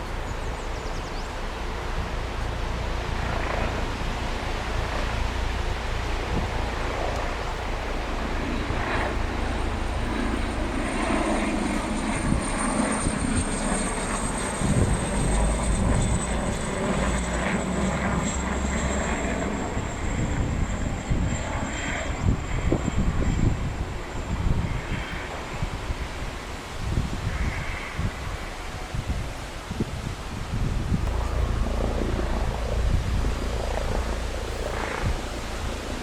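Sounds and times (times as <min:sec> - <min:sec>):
jet engine whine: 0:00.0 - 0:36.0
low jet rumble: 0:00.0 - 0:36.0.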